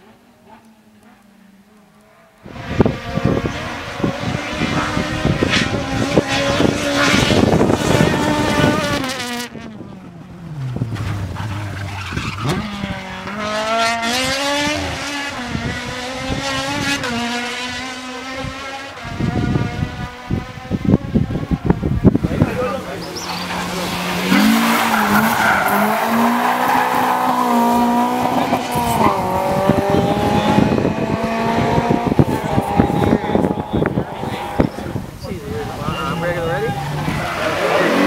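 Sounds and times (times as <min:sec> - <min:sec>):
race car engine at full throttle: 0:00.0 - 0:38.0.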